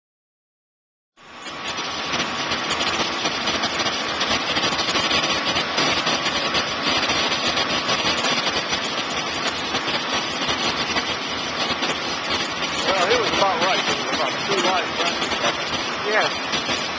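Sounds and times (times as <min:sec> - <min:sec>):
engine running with loud hiss: 0:01.2 - 0:16.9.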